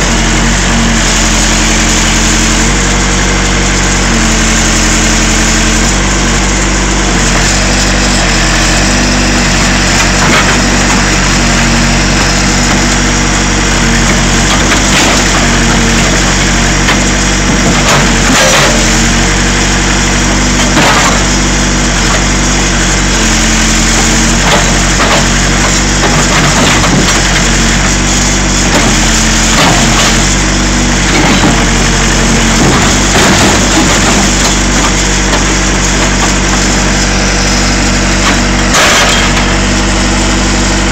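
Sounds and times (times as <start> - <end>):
diesel engine running under load: 0.0 - 40.9
metal cracking and crunching: 5.6 - 40.9.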